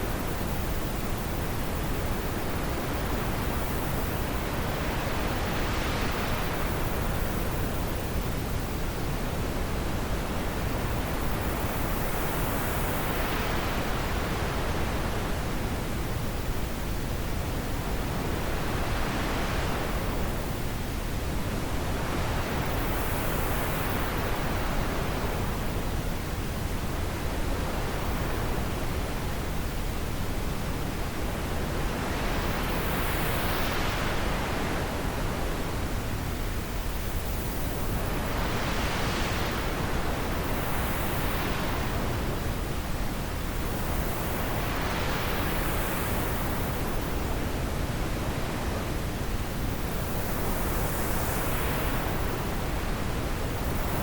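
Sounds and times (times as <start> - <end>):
wind blowing in gusts: 0.0 - 54.0.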